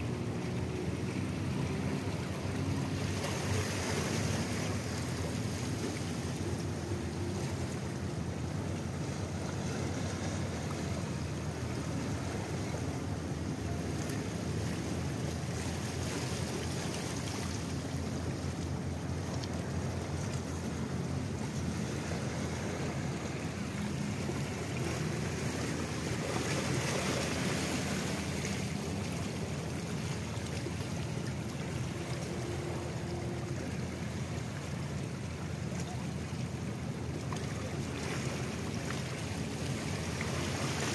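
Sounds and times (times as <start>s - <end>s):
water lapping: 0.0s - 40.9s.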